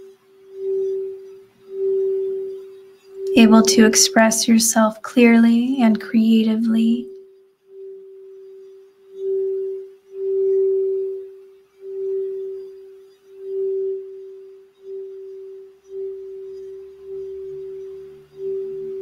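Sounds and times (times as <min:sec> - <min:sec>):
singing bowl sustained note: 0:00.0 - 0:19.0.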